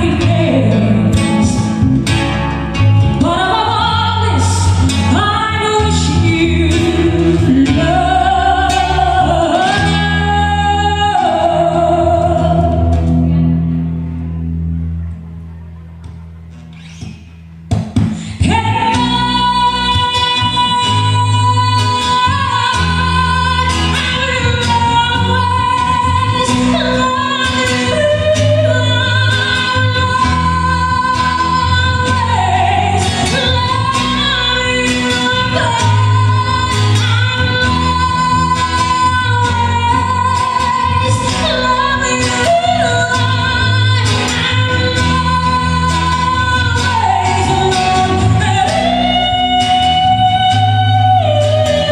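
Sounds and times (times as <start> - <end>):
bass line: 0.0 - 51.9.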